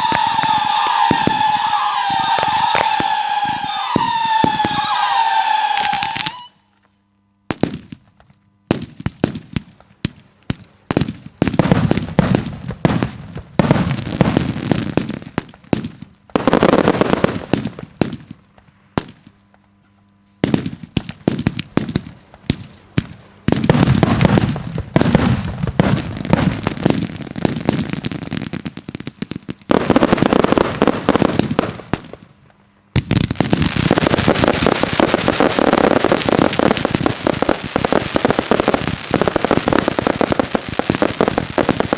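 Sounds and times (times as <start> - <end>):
fireworks bangs and crackling: 0.0 - 6.6, 7.5 - 19.7, 20.4 - 41.9.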